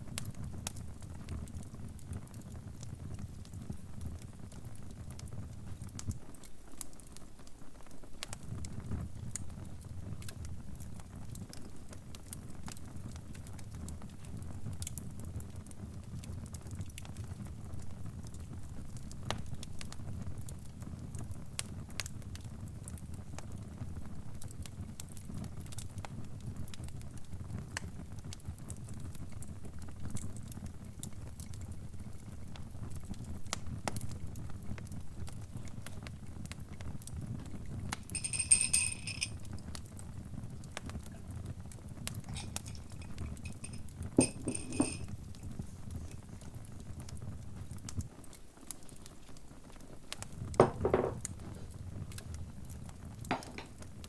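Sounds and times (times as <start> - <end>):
fire burning rumble: 0.0 - 38.2, 39.3 - 44.2, 45.0 - 54.0
fire popping and snapping: 0.0 - 54.0.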